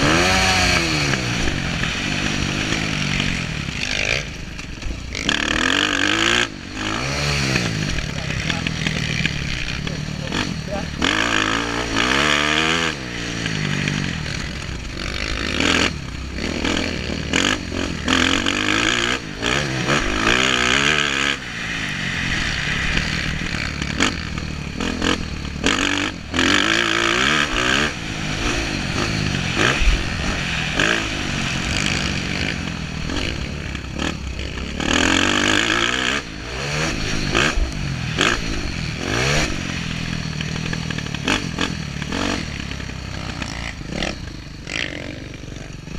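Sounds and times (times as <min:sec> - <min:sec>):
sharp rushes and knocks: 0:00.0 - 0:45.3
dirt bike engine revving: 0:00.0 - 0:45.9.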